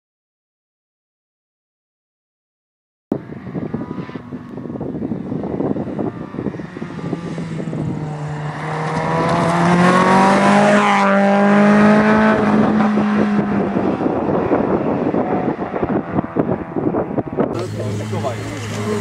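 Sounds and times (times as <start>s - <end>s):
rally car accelerating past: 3.2s - 19.0s.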